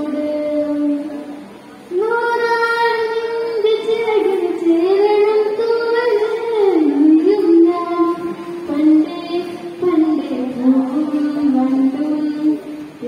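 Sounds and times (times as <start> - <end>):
girl singing into a microphone: 0.0 - 13.0.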